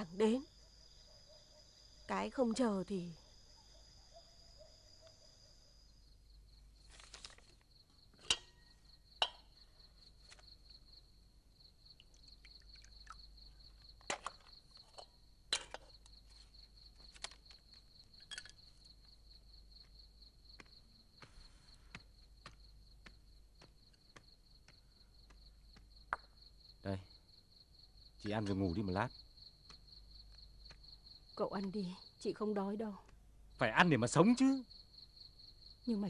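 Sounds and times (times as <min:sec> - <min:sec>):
cricket chirping: 0:00.0 - 0:36.0.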